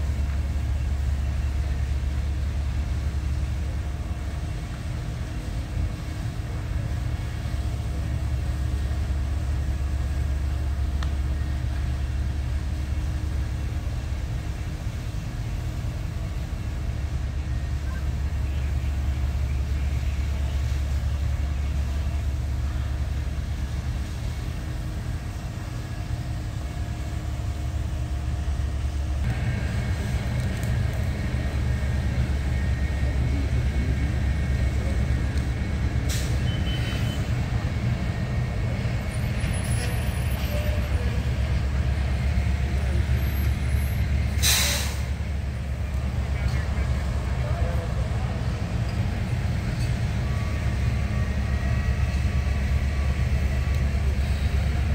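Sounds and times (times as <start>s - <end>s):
fire engine pump running: 0.0s - 54.9s.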